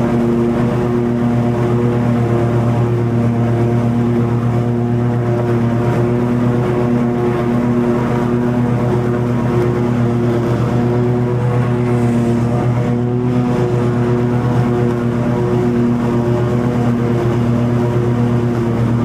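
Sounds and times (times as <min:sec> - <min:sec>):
lawn mower engine drone: 0:00.0 - 0:19.0.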